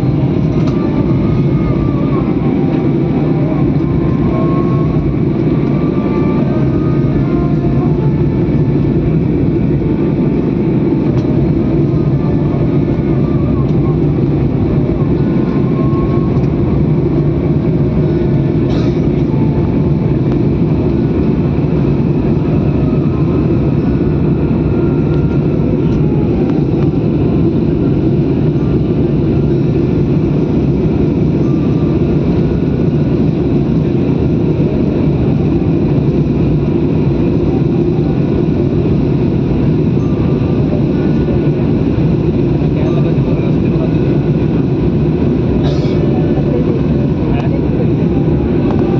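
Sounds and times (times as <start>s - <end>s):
airliner engines droning: 0.0s - 48.9s.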